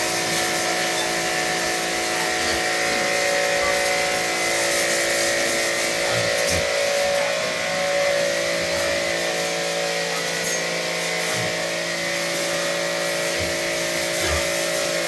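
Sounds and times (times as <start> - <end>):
small motor humming: 0.0 - 15.0.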